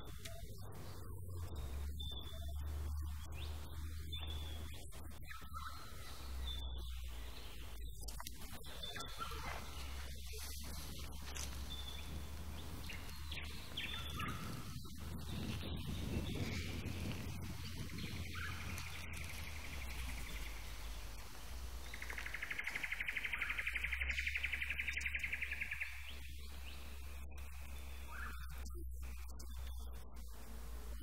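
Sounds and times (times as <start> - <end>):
bird trilling: 0.0 - 8.0, 8.6 - 21.0, 21.8 - 29.3
birds calling: 0.0 - 31.0.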